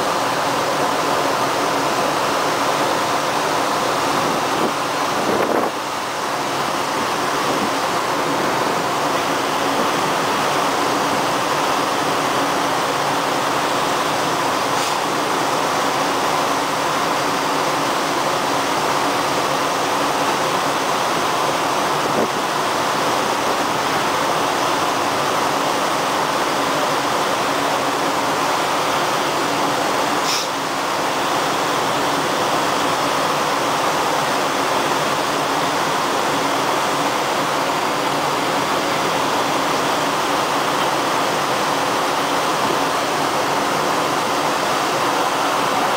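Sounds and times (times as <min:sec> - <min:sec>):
water rushing and churning: 0:00.0 - 0:45.9.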